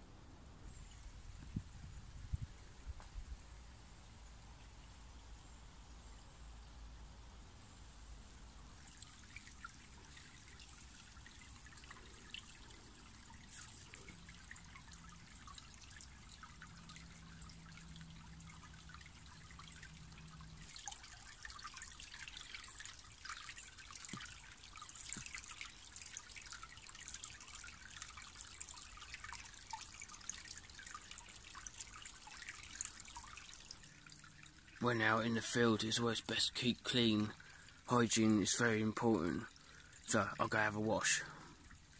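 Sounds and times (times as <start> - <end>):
stream trickling over stones: 0.6 - 41.9.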